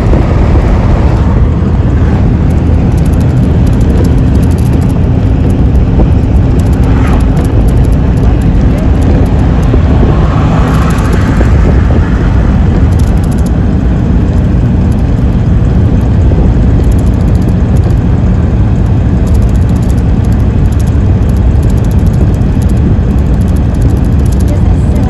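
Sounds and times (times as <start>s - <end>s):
vehicle interior rumble: 0.0s - 25.0s.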